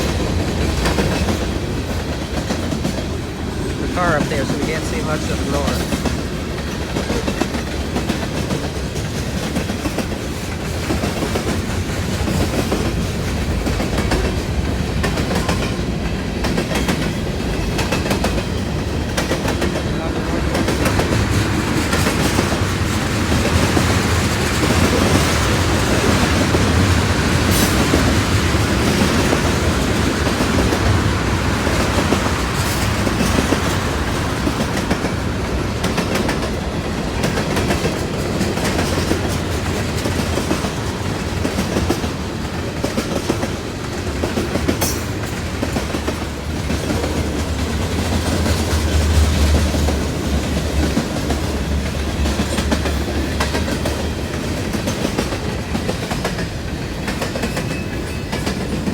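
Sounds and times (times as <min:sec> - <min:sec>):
freight train cars rolling: 0:00.0 - 0:58.9
steel wheels clacking over rail joints: 0:00.0 - 0:58.9.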